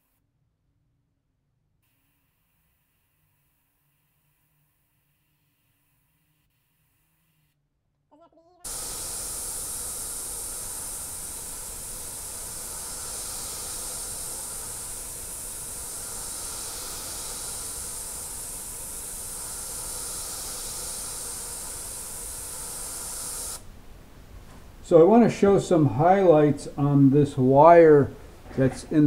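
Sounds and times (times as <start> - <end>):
airbrush hissing: 1.8 - 7.6, 8.6 - 23.8, 24.9 - 29.0.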